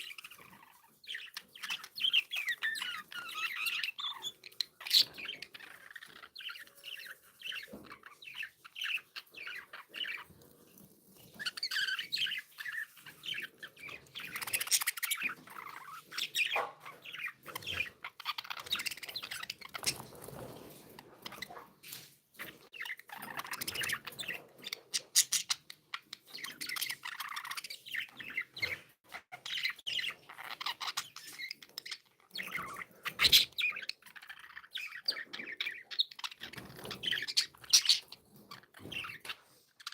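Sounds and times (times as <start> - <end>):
budgerigars chirping: 0.0 - 10.4, 11.2 - 20.4, 22.4 - 39.9.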